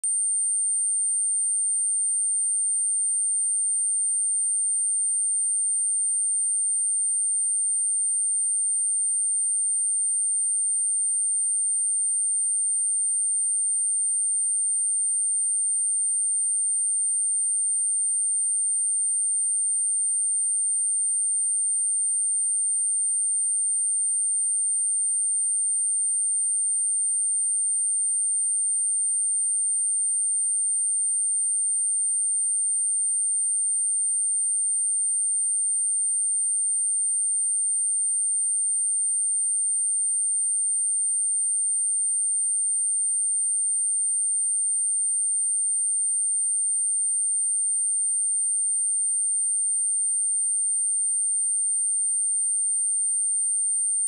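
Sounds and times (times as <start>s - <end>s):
high-pitched sine test tone: 0.0s - 54.0s.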